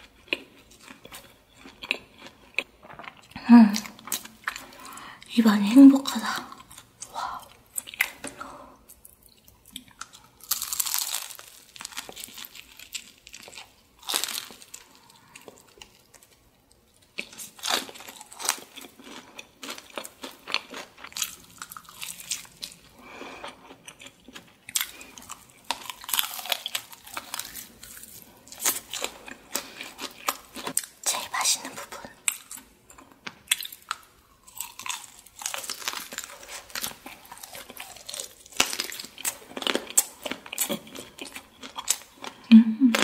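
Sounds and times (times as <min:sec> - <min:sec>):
crunching fried chicken: 0:00.0 - 0:04.9, 0:06.6 - 0:31.1, 0:32.2 - 0:42.4.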